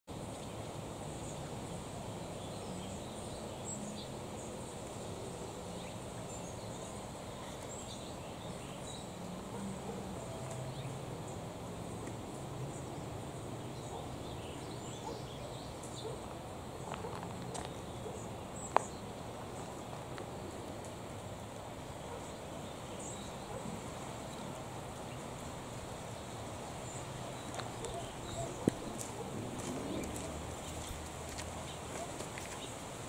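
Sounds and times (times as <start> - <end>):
small birds chirping: 0.2 - 33.0.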